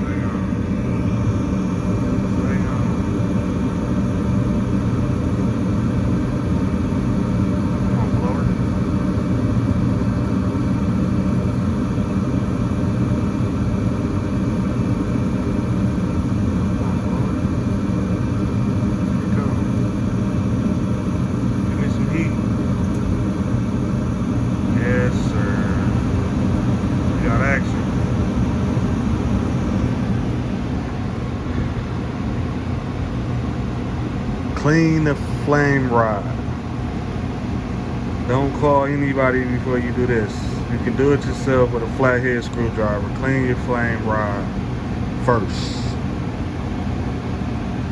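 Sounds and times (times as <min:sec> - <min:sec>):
gas furnace running: 0:00.0 - 0:47.9.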